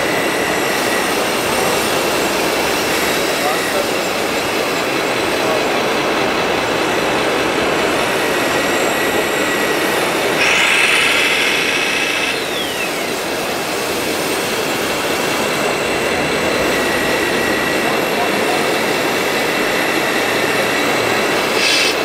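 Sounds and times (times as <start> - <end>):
higher motor whine: 0.0 - 22.0
model loader mechanical running: 0.0 - 22.0.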